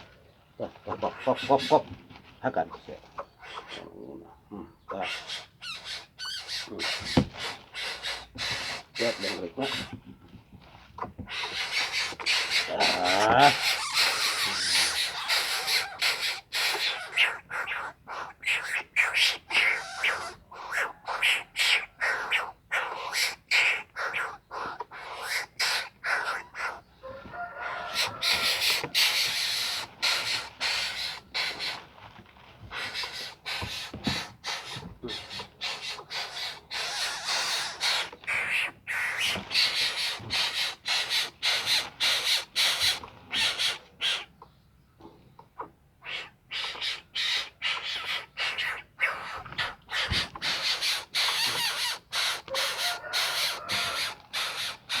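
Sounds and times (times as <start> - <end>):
bird harsh scratchy calls: 0.6 - 4.1, 4.8 - 10.0, 11.0 - 27.0, 27.6 - 44.4, 45.6 - 55.0.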